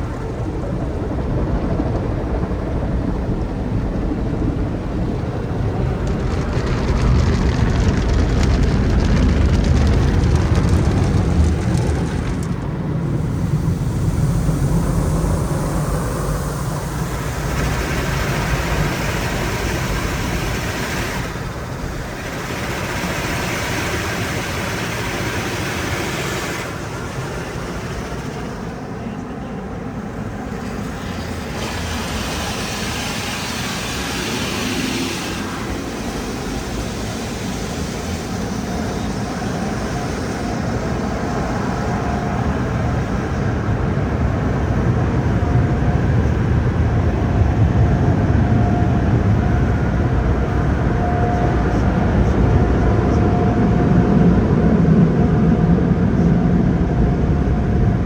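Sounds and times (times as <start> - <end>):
car wash water spray and machinery: 0.0 - 58.0.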